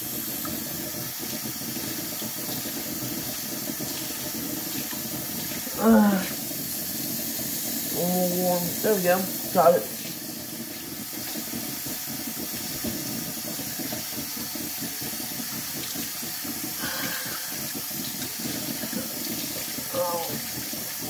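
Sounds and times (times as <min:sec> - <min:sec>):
faucet water splashing into sink: 0:00.0 - 0:21.0.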